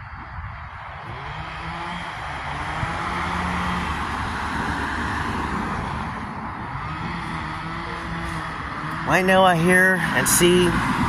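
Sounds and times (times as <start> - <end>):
motor vehicle passing: 0.0 - 11.0.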